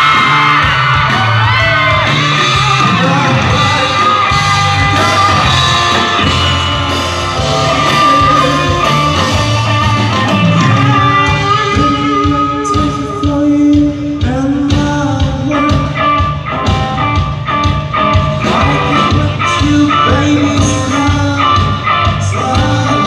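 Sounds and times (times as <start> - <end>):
bass guitar: 0.0 - 23.0
drum kit: 0.0 - 23.0
electric guitar: 0.0 - 23.0
man singing: 1.7 - 16.4, 18.4 - 23.0.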